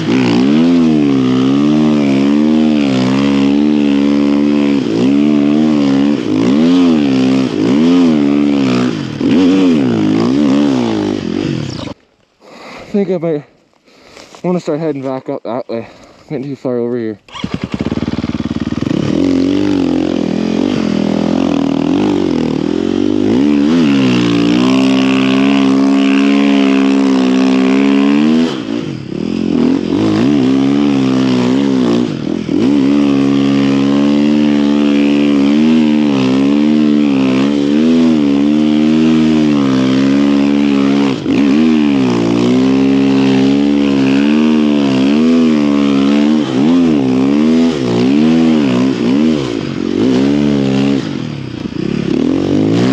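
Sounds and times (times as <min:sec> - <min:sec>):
dirt bike engine revving: 0:00.0 - 0:12.0, 0:17.2 - 0:52.9.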